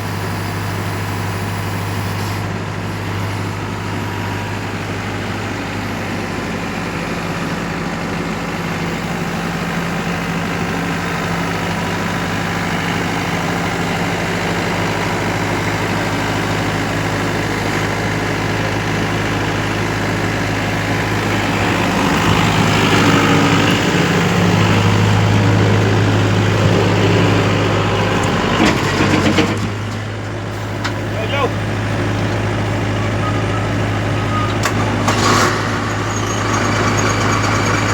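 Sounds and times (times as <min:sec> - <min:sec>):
heavy diesel engine idling: 0:00.0 - 0:37.9.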